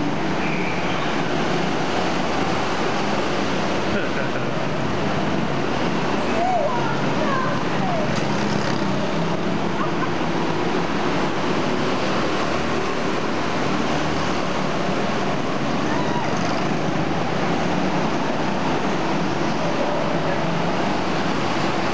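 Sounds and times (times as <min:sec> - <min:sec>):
go-kart engines running: 0:00.0 - 0:21.9.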